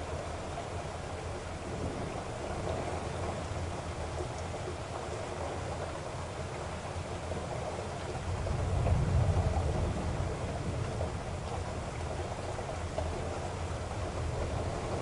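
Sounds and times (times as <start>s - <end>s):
rain and tyres hissing on wet road: 0.0s - 15.0s.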